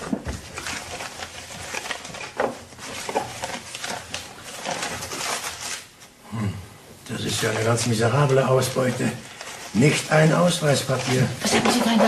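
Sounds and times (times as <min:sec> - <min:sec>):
papers rustling: 0:00.0 - 0:06.2, 0:07.1 - 0:12.0.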